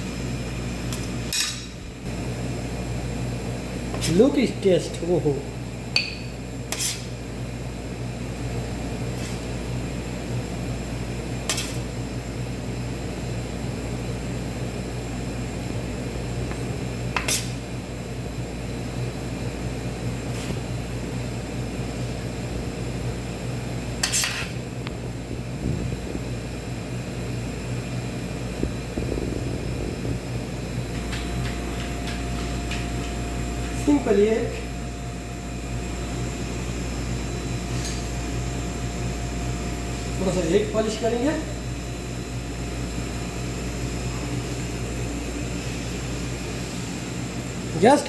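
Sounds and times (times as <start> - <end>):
low kitchen hum: 0.0 - 48.0.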